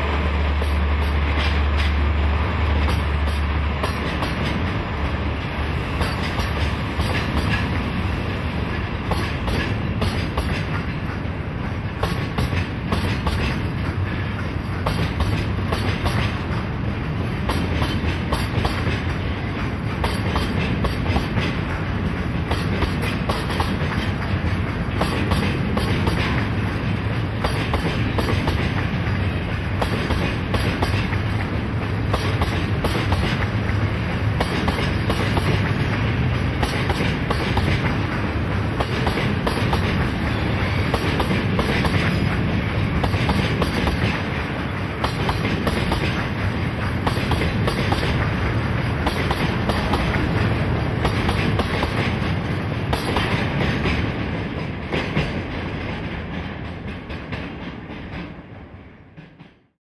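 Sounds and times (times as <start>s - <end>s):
diesel locomotive engine drone: 0.0s - 59.7s
train wheels clicking over rail joints: 0.0s - 59.8s.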